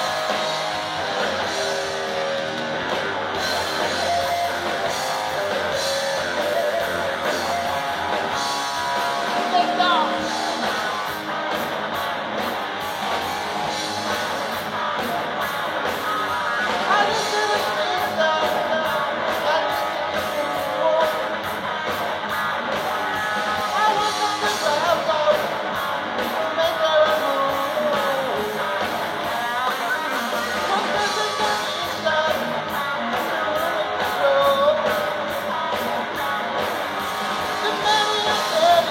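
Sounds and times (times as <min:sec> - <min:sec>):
rock music with guitar: 0:00.0 - 0:38.9.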